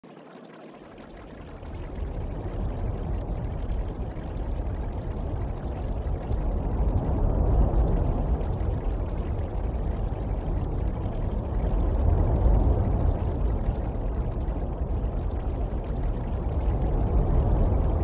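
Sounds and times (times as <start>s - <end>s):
rushing water: 0.0s - 18.0s.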